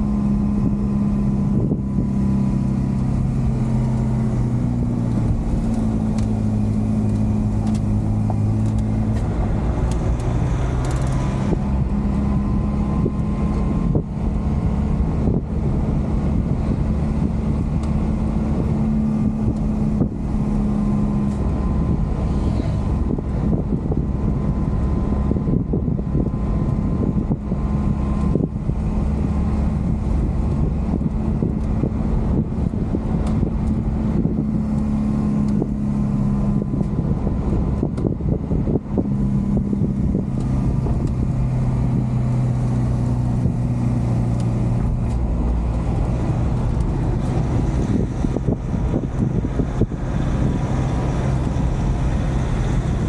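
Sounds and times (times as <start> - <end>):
road rumble: 0.0 - 53.0
truck engine running: 0.0 - 53.0.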